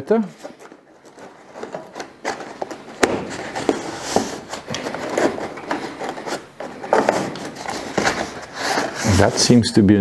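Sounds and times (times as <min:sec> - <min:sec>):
stiff paper crinkling: 0:00.4 - 0:09.5.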